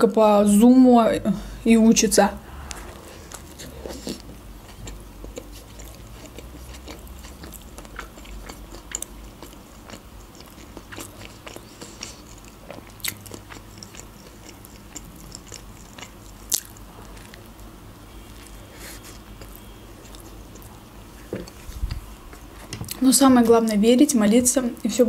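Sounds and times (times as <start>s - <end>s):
chewing burger: 2.9s - 23.0s.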